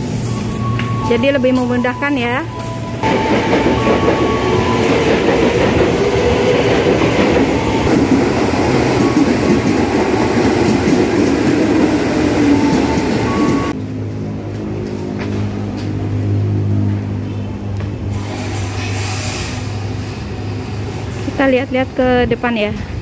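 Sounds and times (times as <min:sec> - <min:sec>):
train wheels on rails: 0:00.0 - 0:16.4, 0:17.3 - 0:23.0.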